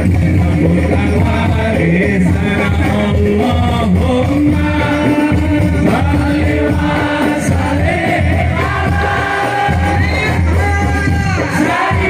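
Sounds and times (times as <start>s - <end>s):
instrumental accompaniment: 0.0s - 12.0s
man singing: 0.0s - 12.0s
voices singing along: 0.0s - 12.0s.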